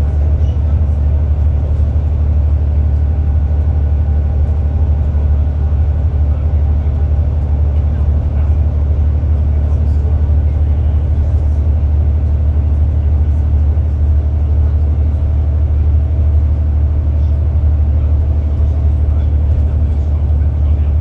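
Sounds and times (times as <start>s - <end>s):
bus engine and road drone: 0.0s - 21.0s.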